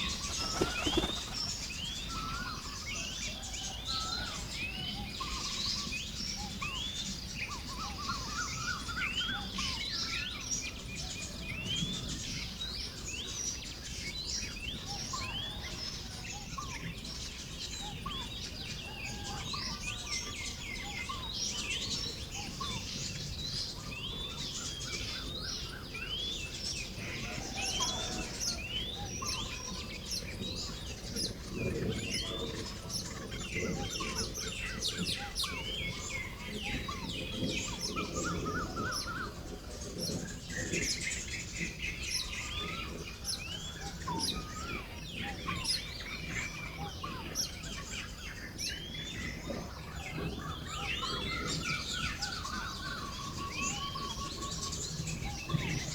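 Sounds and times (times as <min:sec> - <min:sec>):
weaver birds chirping and chattering: 0:00.0 - 0:55.9.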